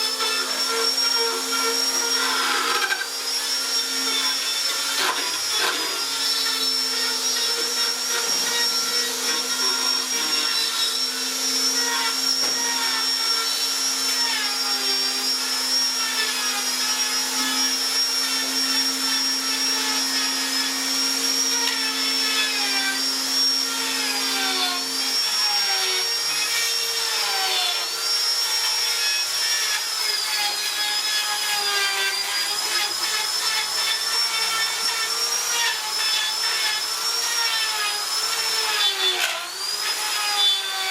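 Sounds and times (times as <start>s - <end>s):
electric power tool motor running: 0.0s - 40.9s.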